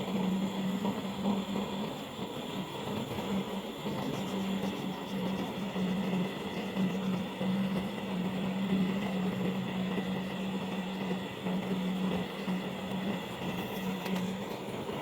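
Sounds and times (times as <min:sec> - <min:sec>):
machine humming and whirring: 0:00.0 - 0:15.0.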